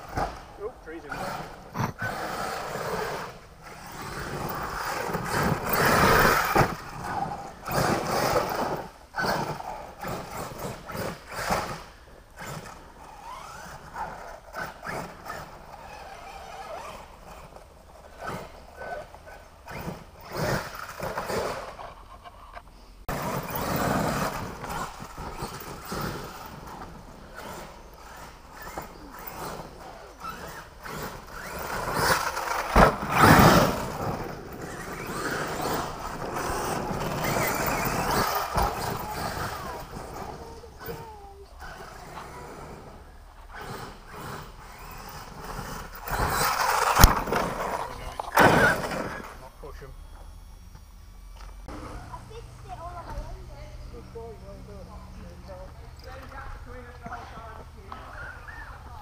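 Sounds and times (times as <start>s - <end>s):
toy truck motor revving: 0.0s - 50.8s.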